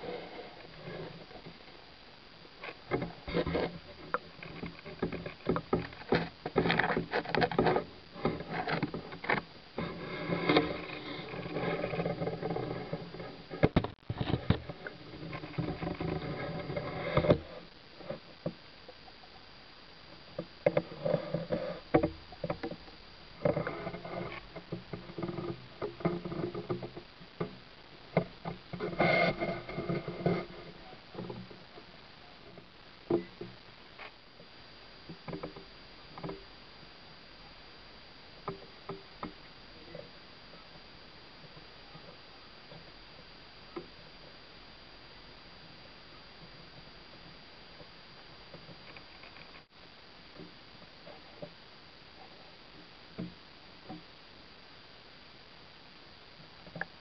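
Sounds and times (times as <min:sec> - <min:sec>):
muffled pitched hum: 0:00.0 - 0:57.0.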